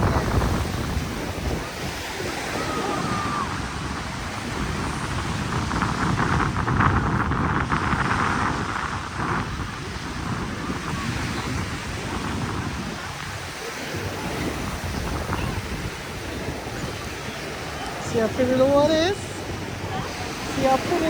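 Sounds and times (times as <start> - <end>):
waves washing on beach: 0.0 - 21.0
wind buffeting microphone: 0.0 - 21.0.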